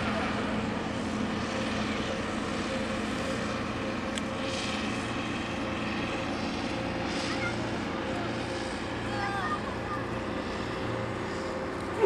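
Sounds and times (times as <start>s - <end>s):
engine drone: 0.0s - 12.0s
outdoor noise: 0.0s - 12.0s.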